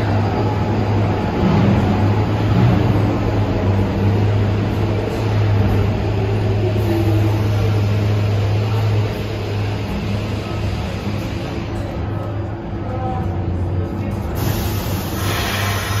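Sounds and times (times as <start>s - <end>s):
subway train humming and rumbling: 0.0s - 16.0s.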